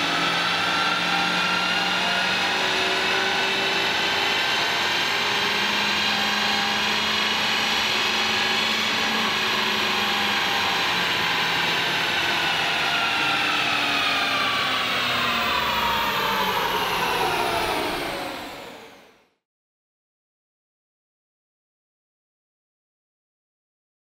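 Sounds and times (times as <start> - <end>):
car engine whine on dyno: 0.0 - 19.4.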